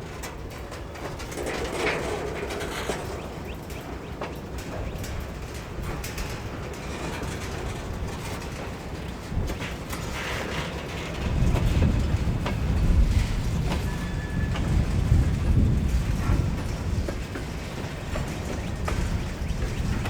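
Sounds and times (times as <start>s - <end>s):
freight train cars rumbling: 0.0s - 20.0s
wheels and couplings clanking: 0.0s - 20.0s.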